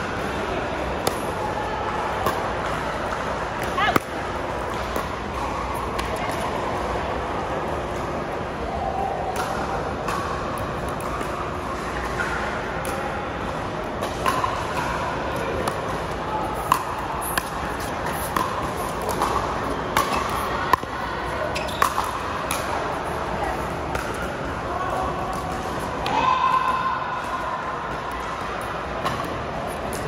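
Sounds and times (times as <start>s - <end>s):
background din of hall: 0.0s - 30.0s.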